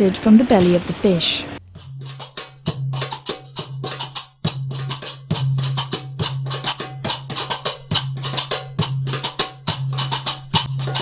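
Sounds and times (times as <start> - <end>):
quick percussion hits: 1.6 - 11.0.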